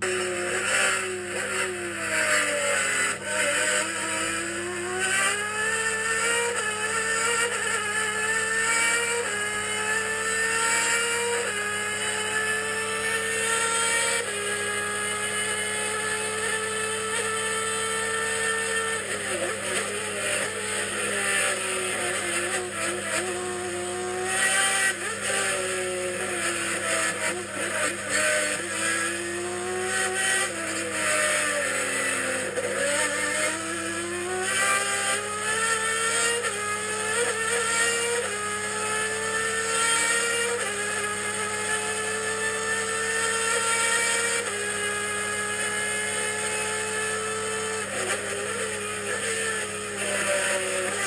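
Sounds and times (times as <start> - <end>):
race car engine at full throttle: 0.0 - 51.0.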